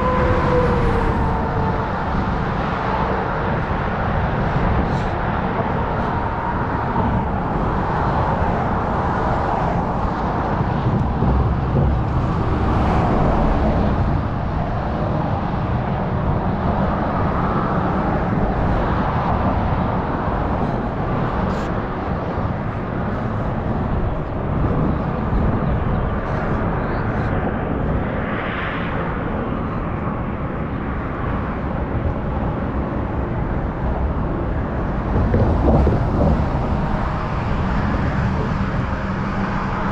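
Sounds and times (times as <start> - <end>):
passing road traffic: 0.0 - 39.9
wind buffeting microphone: 0.0 - 39.9.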